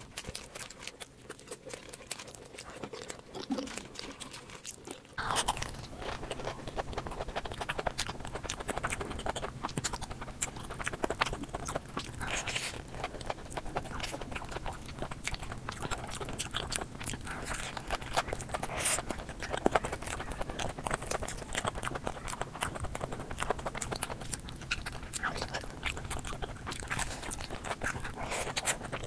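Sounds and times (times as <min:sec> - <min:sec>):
crunchy biting and chewing: 0:00.0 - 0:29.0.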